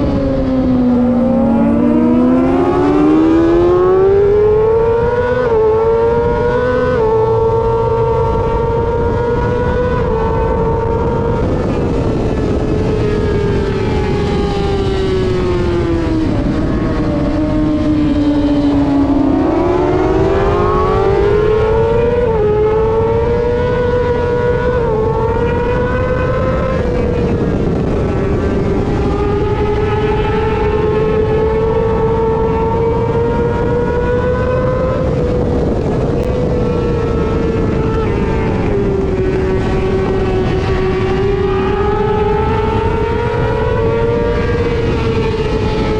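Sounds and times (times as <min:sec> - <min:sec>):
motorbike engine revving: 0:00.0 - 0:45.9
wind noise: 0:00.0 - 0:45.9.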